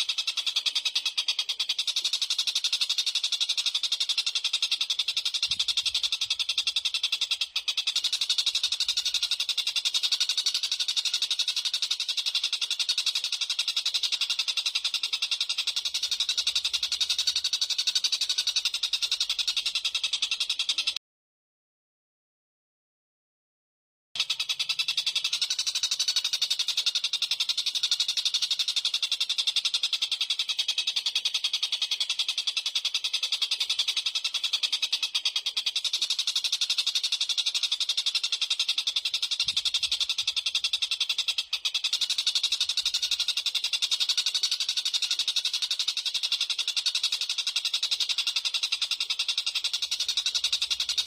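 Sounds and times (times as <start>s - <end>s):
small bird trilling: 0.0s - 21.0s, 24.2s - 51.0s.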